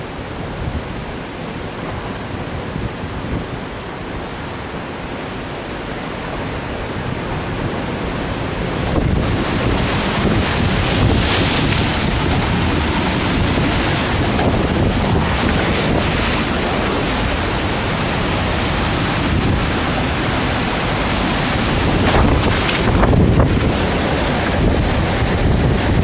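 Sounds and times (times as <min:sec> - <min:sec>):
strong wind buffeting microphone: 0:00.0 - 0:26.0.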